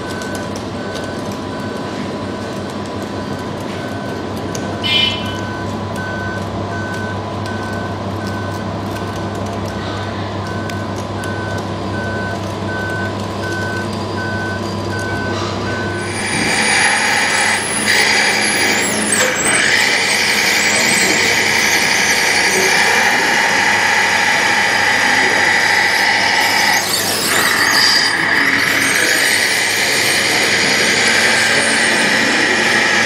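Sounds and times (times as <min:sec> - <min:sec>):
toy dozer motor whine: 0:02.4 - 0:33.0
warning beeper beeps: 0:03.2 - 0:08.6, 0:10.5 - 0:33.0.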